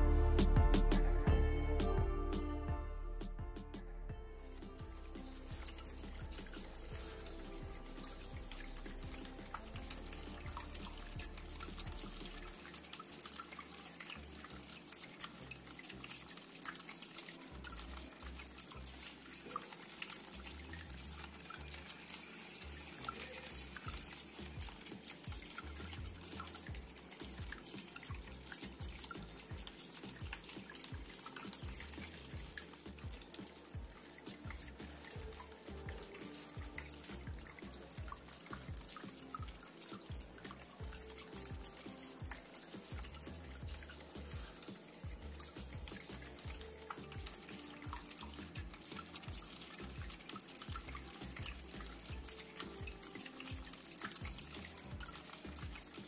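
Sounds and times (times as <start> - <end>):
faint background music with beat: 0.0 - 56.0
fountain water trickling and splashing: 4.4 - 56.0.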